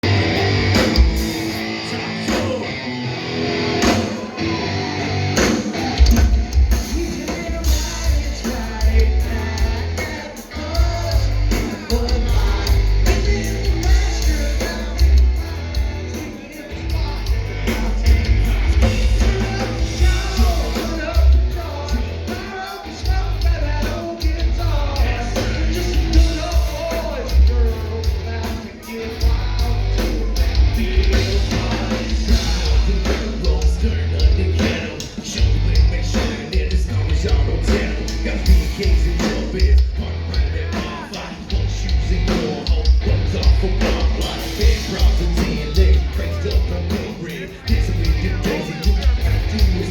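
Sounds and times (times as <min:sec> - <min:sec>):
guitars: 0:00.0 - 0:49.9
person singing: 0:00.0 - 0:49.9
heavy bass beat: 0:05.3 - 0:49.9.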